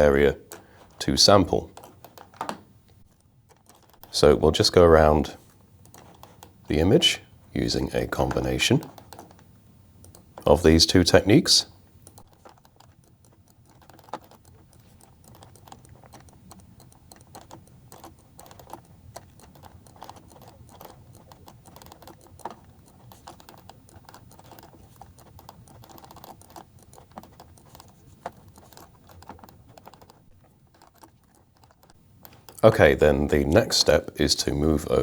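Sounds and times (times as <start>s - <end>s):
computer mouse and keyboard clicking: 0.0s - 35.0s.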